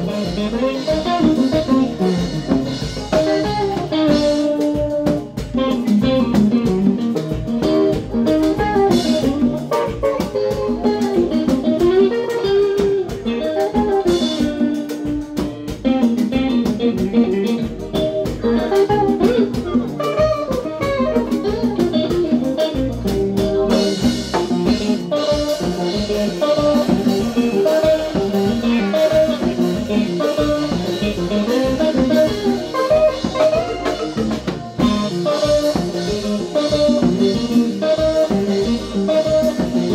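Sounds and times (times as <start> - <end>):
drum kit: 0.0 - 39.9
electric guitar lead line: 0.0 - 39.9.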